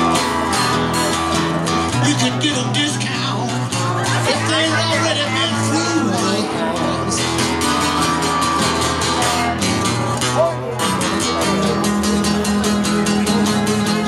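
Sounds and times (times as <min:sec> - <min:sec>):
strummed guitars: 0:00.0 - 0:14.0.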